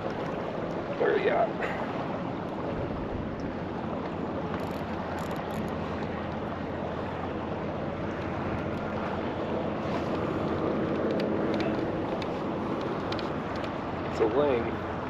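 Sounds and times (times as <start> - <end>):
sea water washing around kayak: 0.0 - 15.0
wind on microphone: 0.0 - 15.0.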